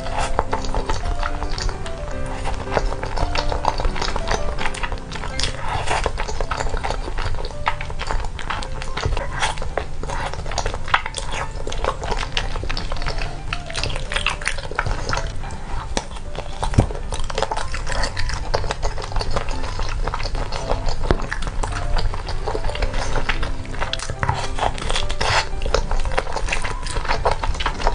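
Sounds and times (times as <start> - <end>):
wet chewing and slurping: 0.0 - 27.9.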